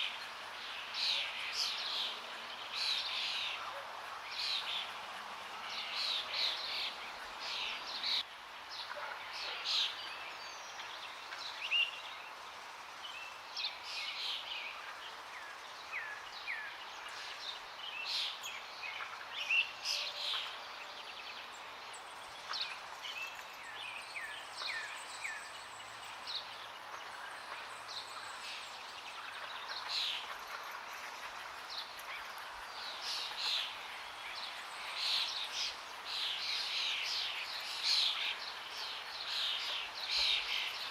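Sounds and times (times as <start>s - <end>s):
forest birds chirping: 0.0s - 40.9s.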